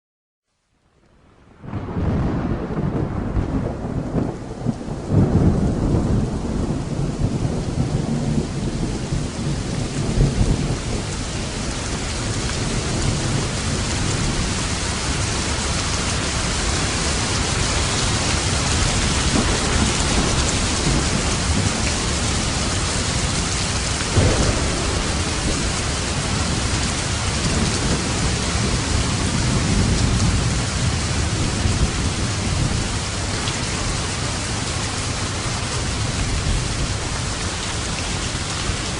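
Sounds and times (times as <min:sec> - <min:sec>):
heavy rain: 0:00.6 - 0:38.9
rolling thunder: 0:01.6 - 0:37.8.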